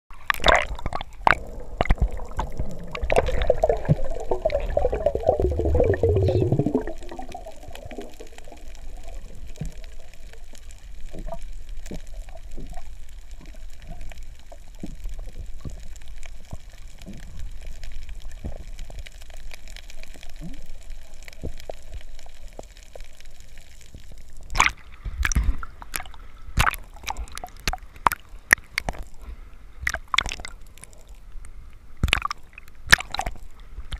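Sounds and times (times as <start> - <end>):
faint crackle of clicks: 0.1 - 5.1, 6.1 - 33.9
water splashes: 0.1 - 23.1, 24.0 - 31.2, 32.0 - 33.9
underwater bubbling and gurgling: 0.1 - 33.9.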